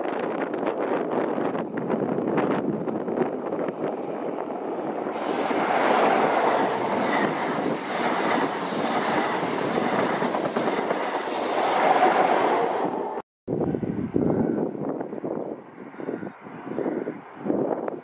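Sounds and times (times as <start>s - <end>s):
train passing at speed: 0.1s - 15.2s.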